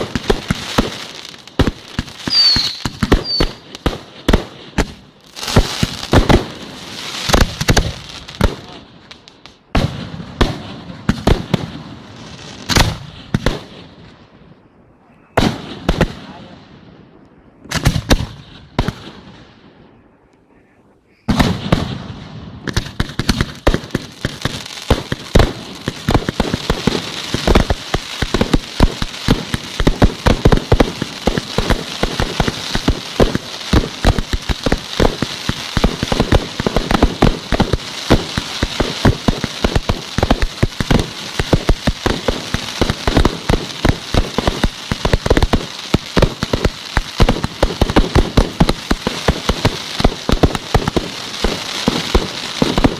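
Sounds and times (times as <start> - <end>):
fireworks crackling: 0.0 - 14.2, 20.6 - 52.9
fireworks bangs: 0.0 - 14.3, 15.1 - 16.9, 17.7 - 19.8, 21.2 - 52.9.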